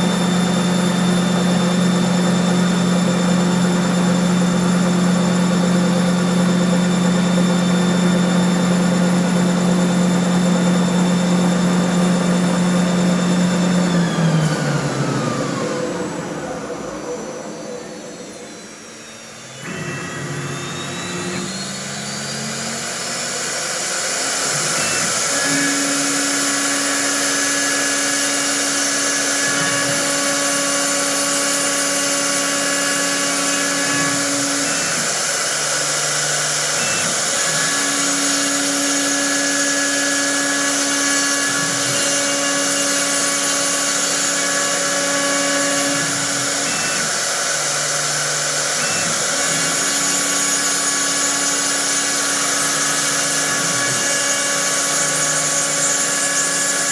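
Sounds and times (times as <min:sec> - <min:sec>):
wood lathe motor whine: 0:00.0 - 0:56.9.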